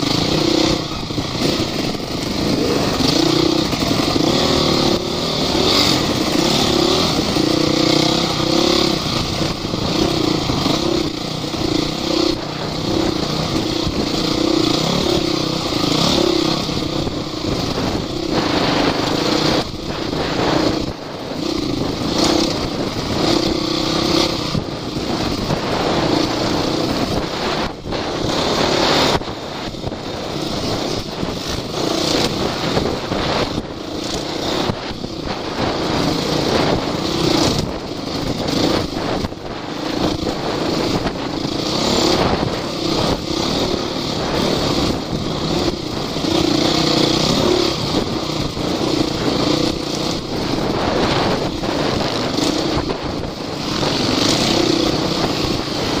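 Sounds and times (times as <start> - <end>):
off-road vehicle engine: 0.0 - 56.0
wind noise: 0.0 - 56.0.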